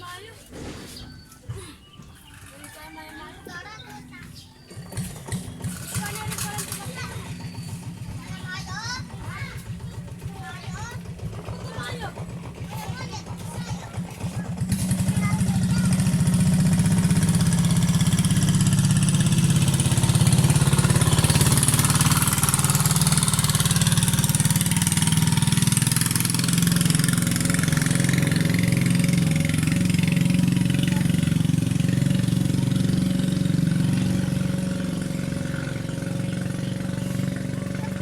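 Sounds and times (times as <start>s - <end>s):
small engine running: 4.3s - 38.0s.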